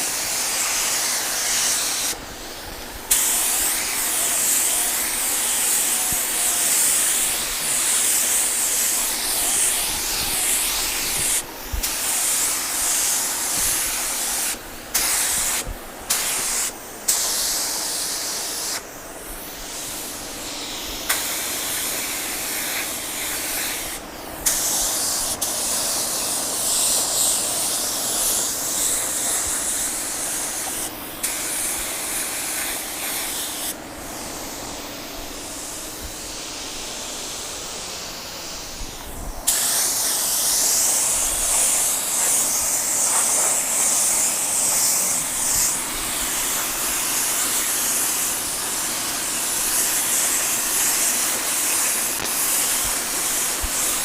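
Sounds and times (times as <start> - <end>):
paint spray gun hissing: 0.0 - 54.0.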